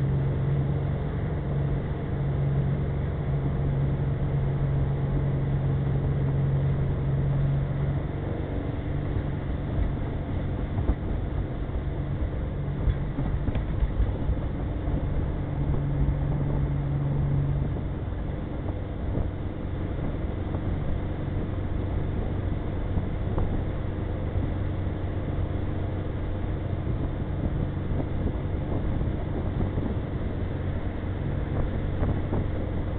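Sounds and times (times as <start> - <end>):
boat engine humming: 0.0 - 32.9
wind: 0.0 - 32.9.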